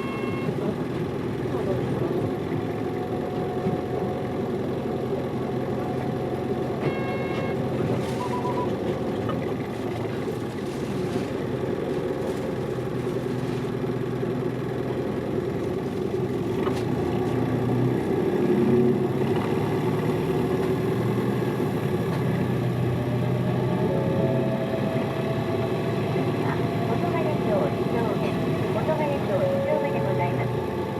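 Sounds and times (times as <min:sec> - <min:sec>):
bus diesel engine from inside: 0:00.0 - 0:30.9.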